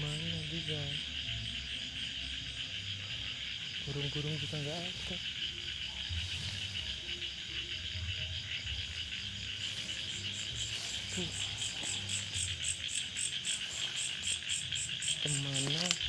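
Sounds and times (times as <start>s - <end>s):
insects buzzing: 0.0s - 16.0s
pulsing insect chirp: 0.0s - 16.0s.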